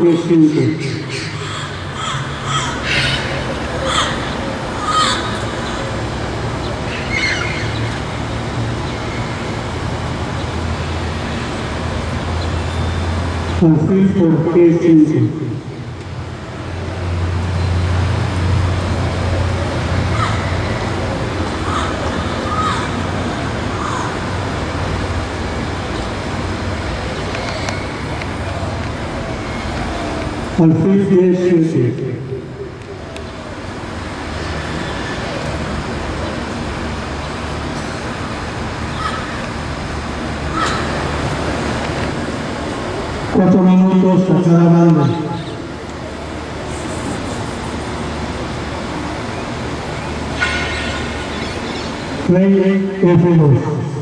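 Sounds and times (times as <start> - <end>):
road traffic hum: 0.0 - 54.0.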